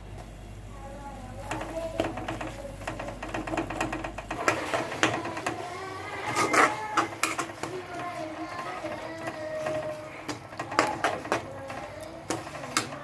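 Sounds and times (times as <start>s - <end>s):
utensil scraping in a pan: 1.4s - 13.0s.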